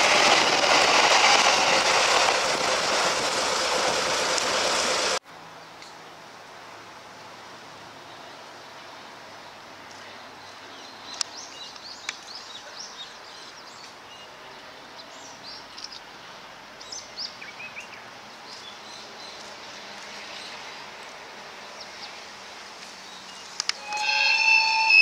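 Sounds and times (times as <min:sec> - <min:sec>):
steady outdoor hiss: 0:01.8 - 0:25.0.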